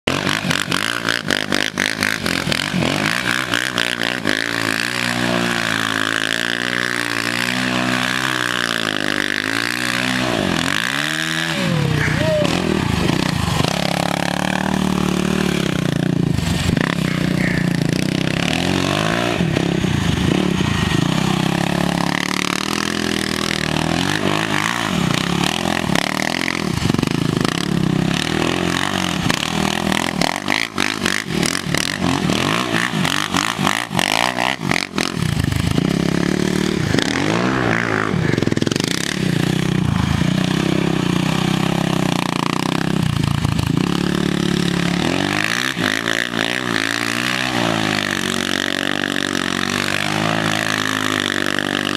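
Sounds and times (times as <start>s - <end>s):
quad bike engine revving: 0.0s - 51.9s.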